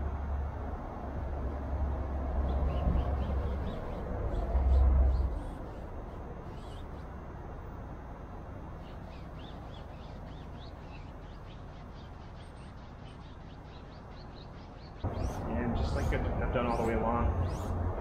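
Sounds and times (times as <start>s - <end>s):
steady low hum: 0.0s - 18.0s
small birds chirping: 1.9s - 18.0s.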